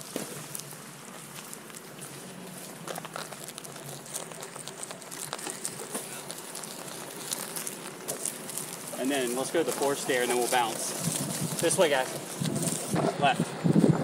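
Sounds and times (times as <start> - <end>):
wheel rolling across grass: 0.0 - 14.0.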